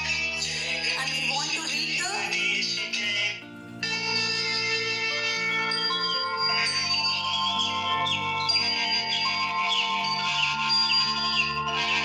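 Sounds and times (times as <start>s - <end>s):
high chirping glides: 0.0s - 12.0s
synthesized toy melody: 0.0s - 12.0s.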